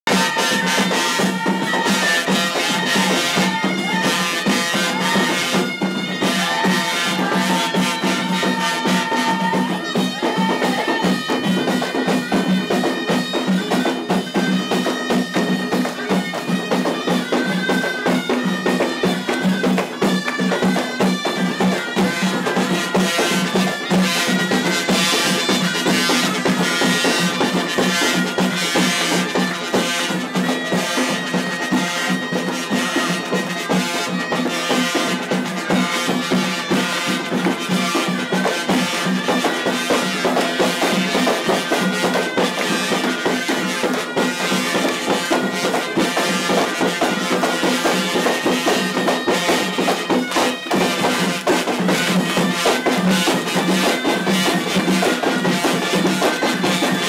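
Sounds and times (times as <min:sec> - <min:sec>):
drums beating: 0:00.0 - 0:57.0
shrill reed pipes melody: 0:00.1 - 0:57.0.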